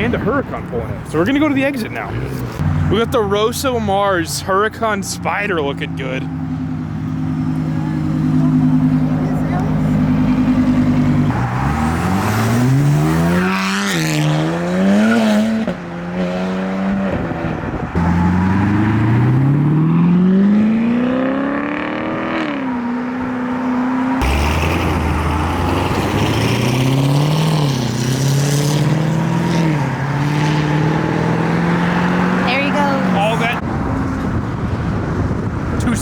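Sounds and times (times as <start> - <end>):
car engines revving hard: 0.0 - 36.0.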